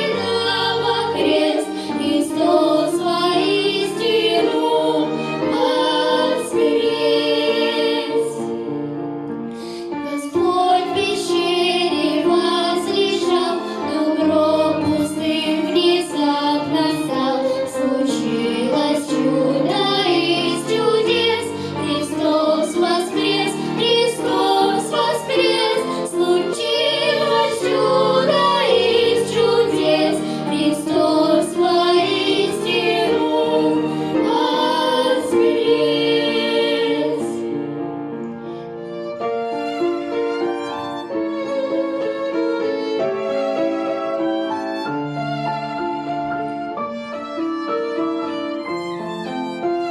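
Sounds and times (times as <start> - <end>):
violin-led pop melody: 0.0 - 37.6, 38.3 - 49.9
soft violin and strings: 0.0 - 49.9.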